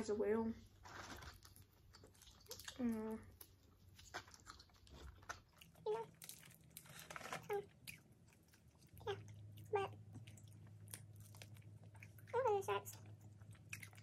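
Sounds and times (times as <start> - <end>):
chewing fried shrimp: 0.8 - 14.0.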